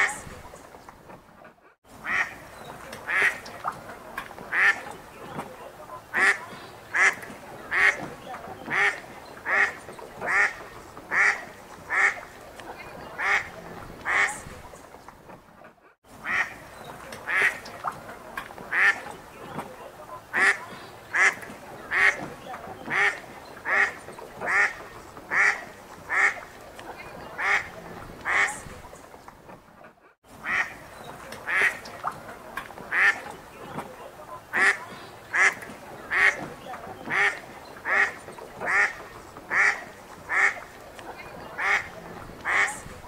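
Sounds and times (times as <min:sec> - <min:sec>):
ducks quacking: 0:00.0 - 0:00.6, 0:01.9 - 0:14.8, 0:16.1 - 0:29.1, 0:30.3 - 0:43.0.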